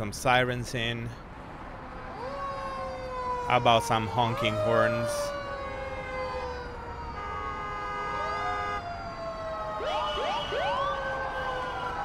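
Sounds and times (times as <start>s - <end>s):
low traffic rumble: 0.0s - 12.0s
emergency sirens wailing: 1.7s - 12.0s.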